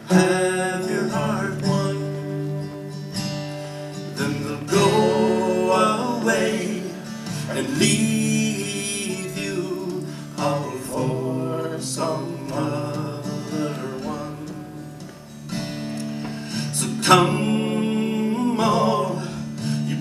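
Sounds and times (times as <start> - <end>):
man singing a slow ballad: 0.0 - 15.2, 16.4 - 20.0
acoustic guitar strumming: 0.0 - 20.0.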